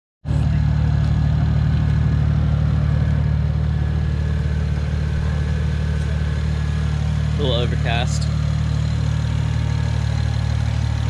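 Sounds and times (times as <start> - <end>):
car engine idling: 0.3 - 11.0.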